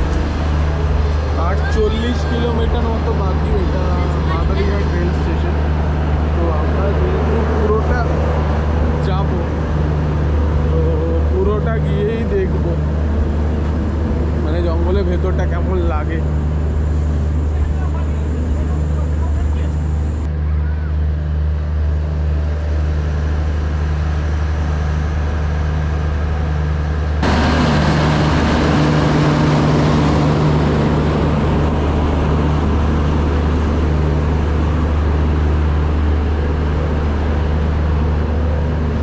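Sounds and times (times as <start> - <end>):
wind and road noise: 0.0 - 20.3, 22.4 - 39.0
vehicle hum: 0.0 - 39.0.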